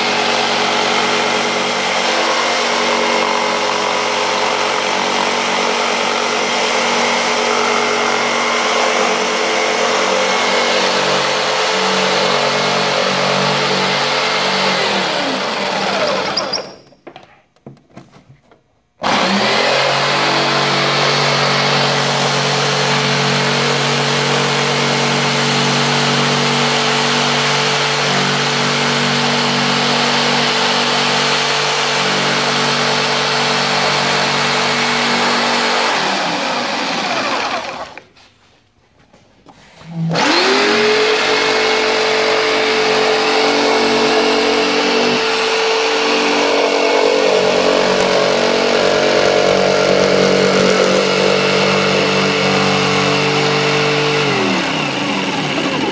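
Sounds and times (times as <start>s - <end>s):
jigsaw sawing through wood: 0.0s - 16.8s, 19.0s - 38.2s, 39.9s - 55.9s.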